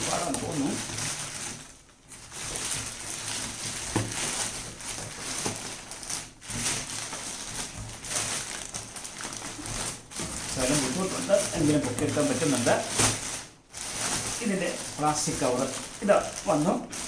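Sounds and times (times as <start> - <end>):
plastic wrapping rustling: 0.0 - 17.0.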